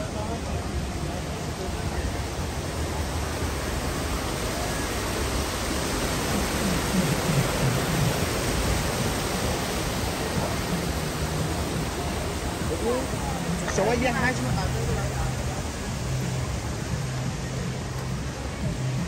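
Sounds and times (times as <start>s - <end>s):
faint voices: 0.0s - 19.0s
mountain stream rushing over rocks: 0.0s - 19.0s.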